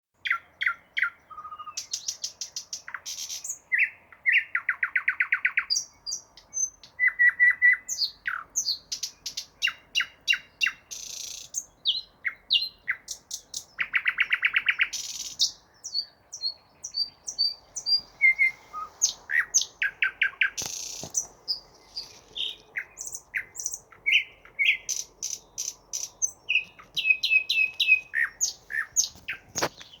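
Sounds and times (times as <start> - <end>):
songbird singing: 0.1 - 30.0.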